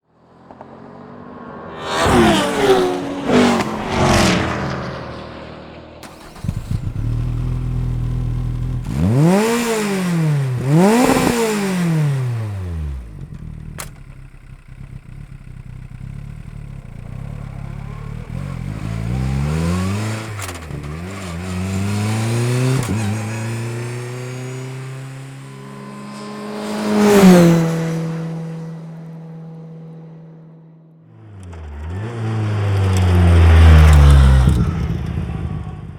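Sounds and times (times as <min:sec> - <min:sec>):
car engine revving: 0:00.6 - 0:29.8, 0:31.1 - 0:35.9.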